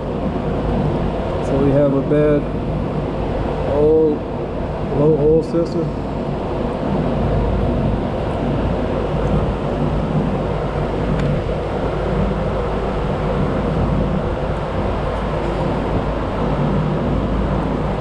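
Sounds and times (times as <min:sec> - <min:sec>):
motor running with low hum: 0:00.0 - 0:18.0.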